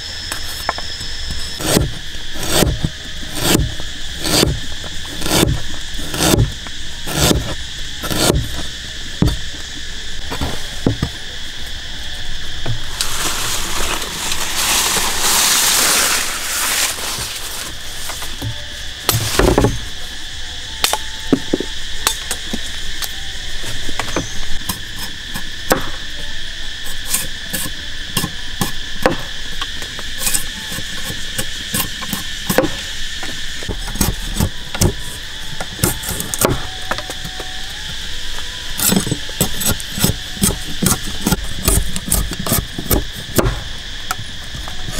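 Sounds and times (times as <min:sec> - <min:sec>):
high-pitched insect drone: 0:00.0 - 0:44.9.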